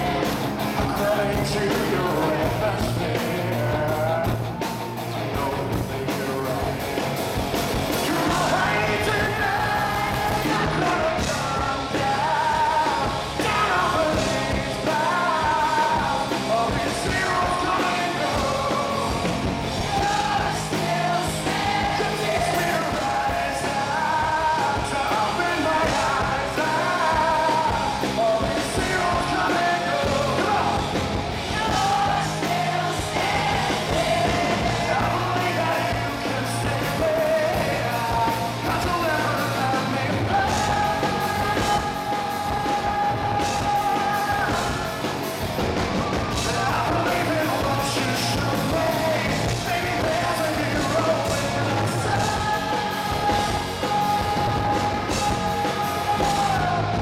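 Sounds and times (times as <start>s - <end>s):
man singing: 0.0s - 7.2s, 7.8s - 57.0s
live rock band playing: 0.0s - 57.0s.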